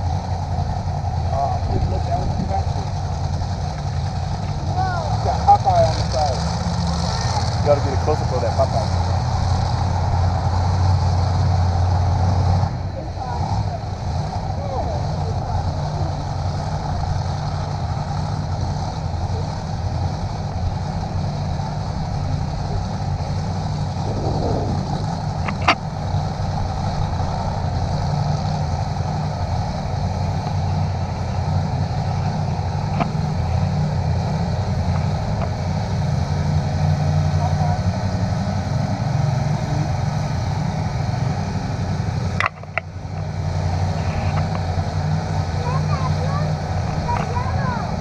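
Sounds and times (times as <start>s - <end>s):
engine humming: 0.0s - 48.0s.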